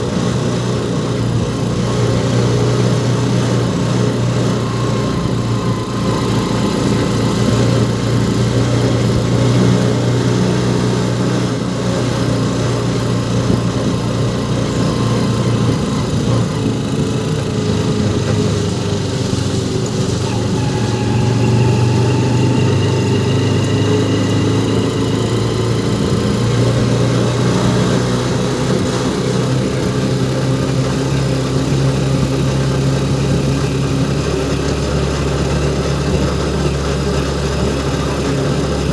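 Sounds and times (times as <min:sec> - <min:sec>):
engine running with low hum: 0:00.0 - 0:38.9.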